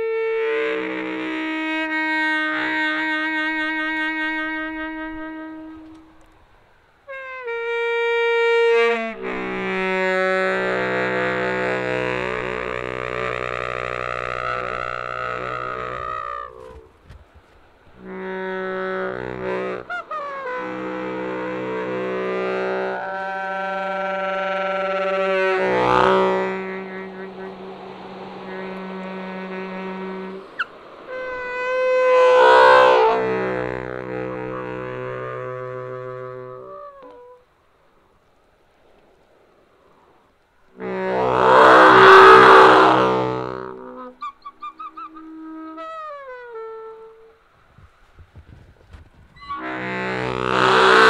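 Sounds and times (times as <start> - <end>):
solo saxophone: 0.0 - 37.7, 40.0 - 51.0
steady low tone: 0.0 - 44.3.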